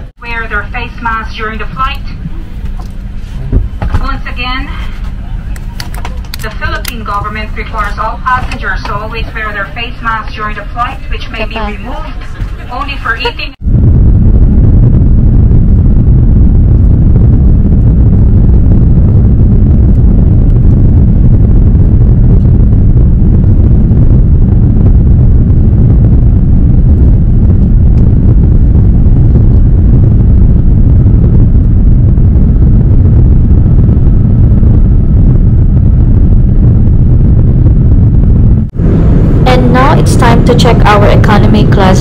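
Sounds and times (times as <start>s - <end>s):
jet airliner cabin rumble: 0.0s - 42.0s.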